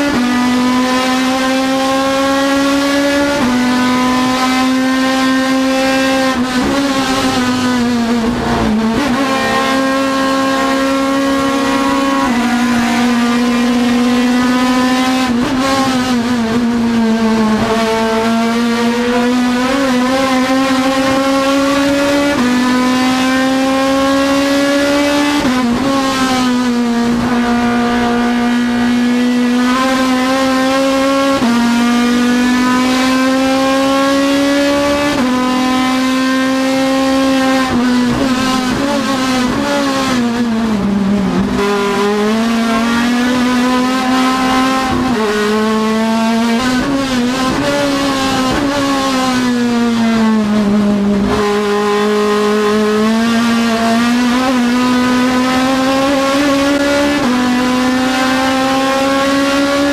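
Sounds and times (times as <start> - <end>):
race car engine at full throttle: 0.0 - 59.9.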